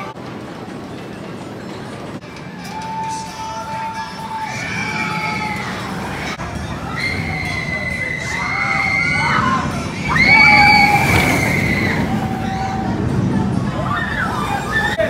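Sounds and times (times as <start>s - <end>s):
roller coaster wheels rumbling: 0.0s - 15.0s
riders screaming: 2.6s - 15.0s.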